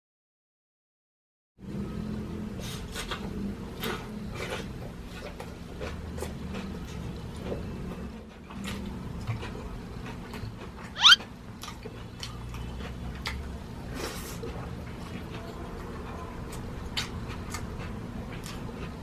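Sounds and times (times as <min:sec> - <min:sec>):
wet chewing mouth sounds: 0:02.9 - 0:19.0.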